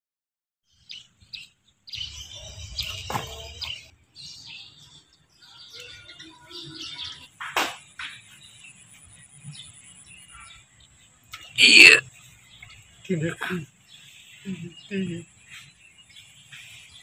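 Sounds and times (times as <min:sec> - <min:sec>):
small birds chirping: 0:00.6 - 0:17.0.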